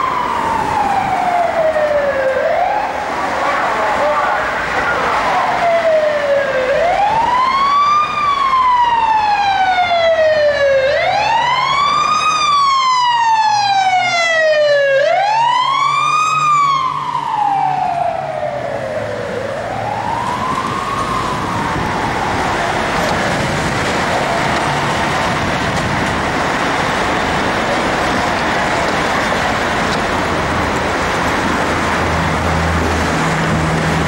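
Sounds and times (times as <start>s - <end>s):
emergency siren wailing: 0.0s - 34.0s
road traffic noise: 0.0s - 34.0s.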